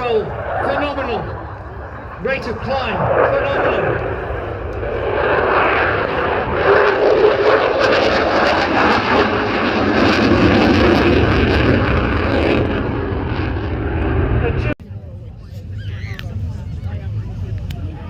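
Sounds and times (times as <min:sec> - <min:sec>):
jet engines roaring past: 0:00.0 - 0:18.0.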